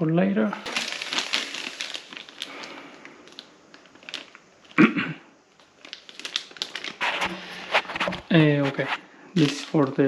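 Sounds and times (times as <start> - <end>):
plastic packaging crinkling: 0.6 - 4.8, 5.5 - 10.0.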